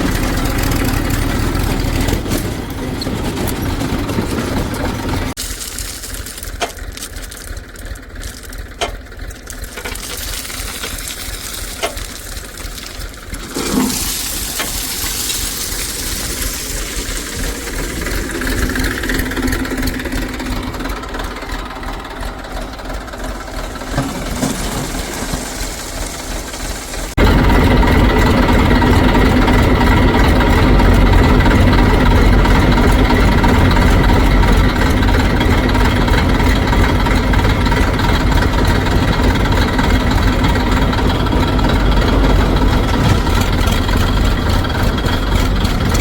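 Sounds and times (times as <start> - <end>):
heavy machinery diesel engine: 0.0 - 46.0.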